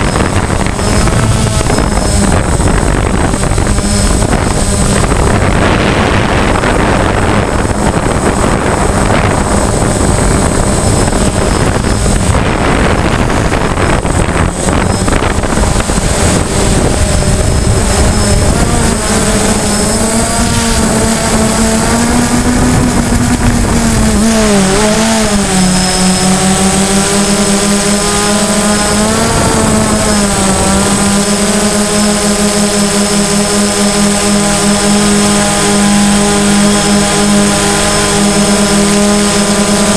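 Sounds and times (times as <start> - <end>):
drone propellers buzzing: 0.0 - 39.9
rushing noise: 0.0 - 39.9.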